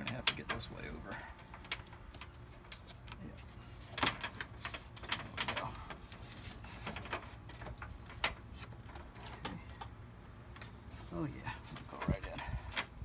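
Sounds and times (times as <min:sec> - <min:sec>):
plastic shroud clicking and scraping: 0:00.0 - 0:13.0.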